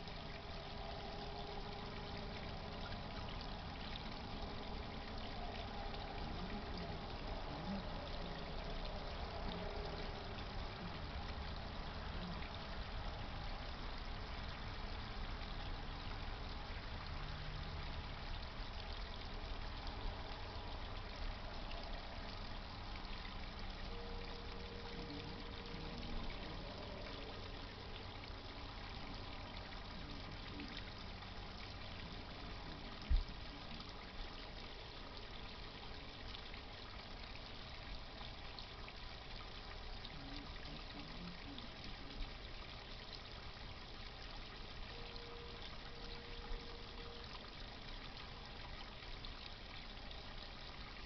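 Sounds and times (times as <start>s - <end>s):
water trickling and splashing: 0.0s - 51.0s.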